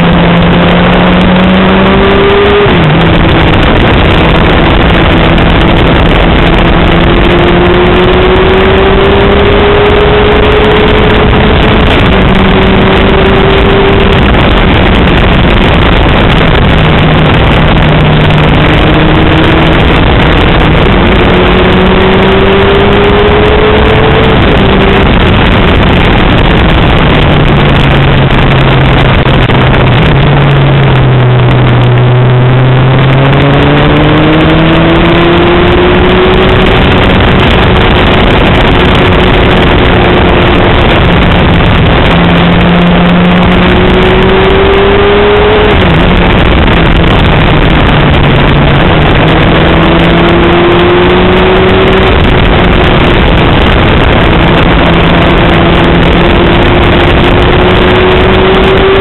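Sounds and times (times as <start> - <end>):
loud rushing noise: 0.0 - 59.0
motorcycle engine revving: 0.0 - 59.0.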